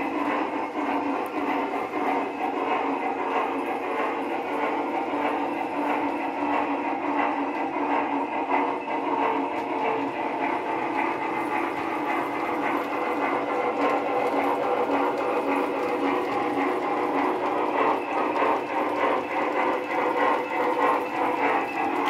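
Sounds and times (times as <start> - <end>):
model train wheels clattering: 0.0 - 22.0.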